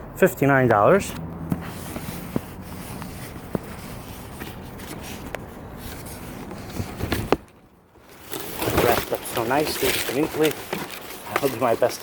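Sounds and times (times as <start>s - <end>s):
cardboard box and paper rustling: 1.6s - 12.0s.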